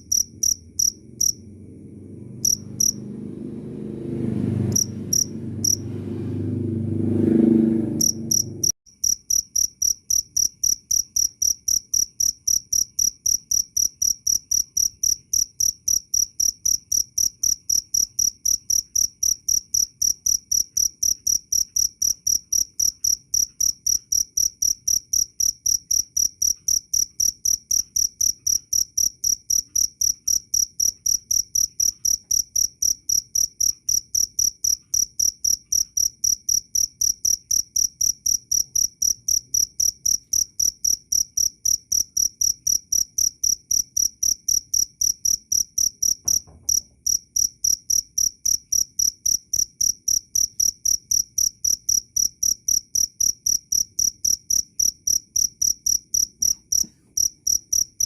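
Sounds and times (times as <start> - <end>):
cricket chirping: 0.0 - 3.2, 4.4 - 5.9, 8.0 - 58.0.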